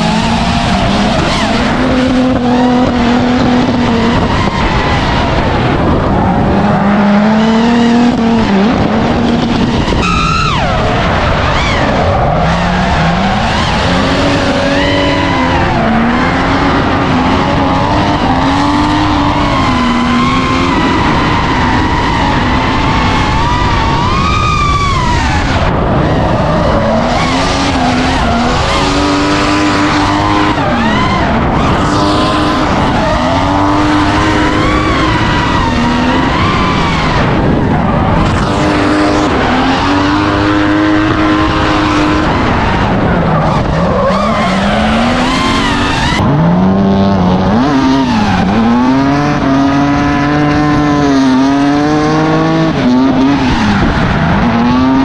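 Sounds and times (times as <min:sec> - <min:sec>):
car engines revving: 0:00.0 - 0:55.0
tyres skidding and squealing: 0:00.0 - 0:55.0.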